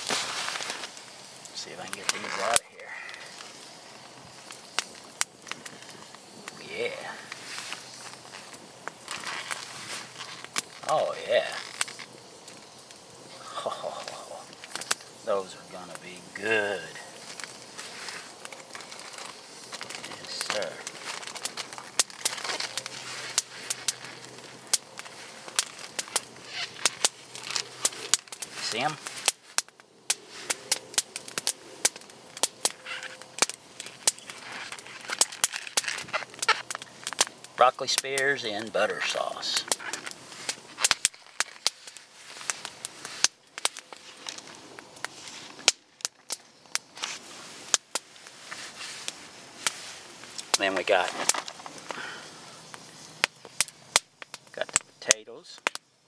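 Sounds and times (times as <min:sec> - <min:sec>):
aluminium foil rustling: 0:00.0 - 0:55.8
campfire crackling and popping: 0:00.0 - 0:56.0.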